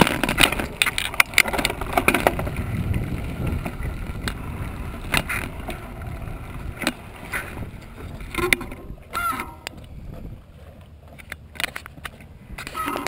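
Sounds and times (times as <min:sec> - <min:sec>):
bicycle rolling over gravel: 0:00.0 - 0:13.0
bike clicks and rattles: 0:00.0 - 0:13.0.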